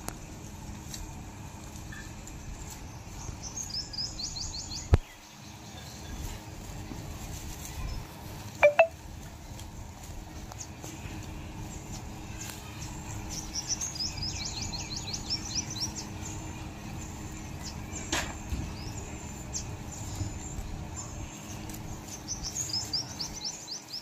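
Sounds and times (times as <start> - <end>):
low background noise: 0.0 - 24.0
small birds chirping: 1.9 - 24.0.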